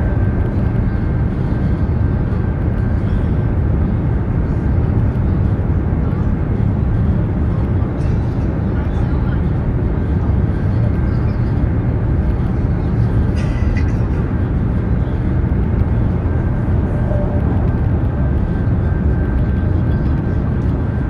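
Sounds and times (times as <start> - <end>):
faint steady whine: 0.0 - 21.0
train rumble inside carriage: 0.0 - 21.0.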